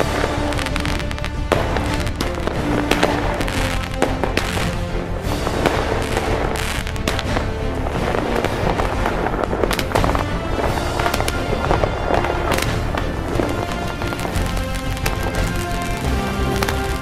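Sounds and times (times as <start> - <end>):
background music: 0.0 - 17.0
fireworks bangs and crackling: 0.0 - 17.0.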